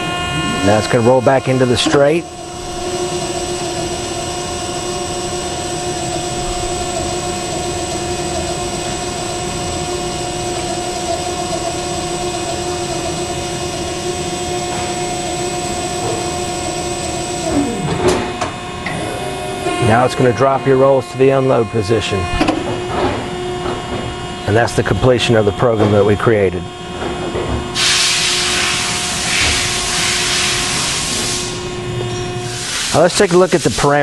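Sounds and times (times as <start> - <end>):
roll bending machine humming: 0.0 - 34.0.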